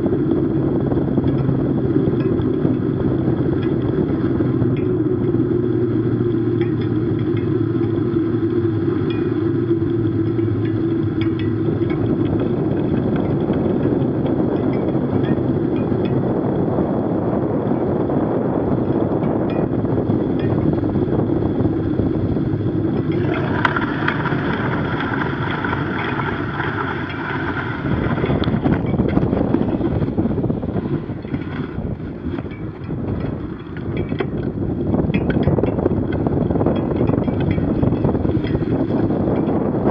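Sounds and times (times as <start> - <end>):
bicycle tyre rolling on snow: 0.0 - 39.9
wind on microphone: 0.0 - 39.9.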